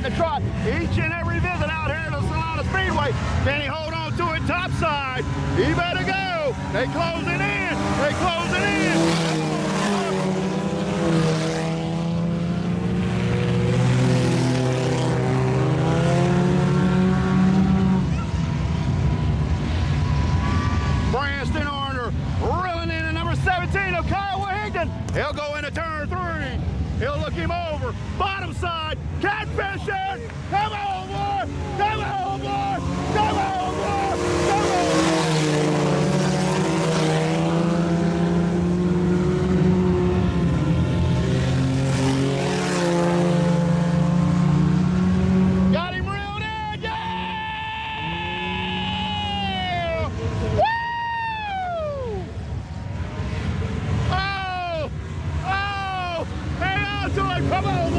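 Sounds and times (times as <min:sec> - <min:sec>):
race car engines at speed: 0:00.0 - 0:57.9.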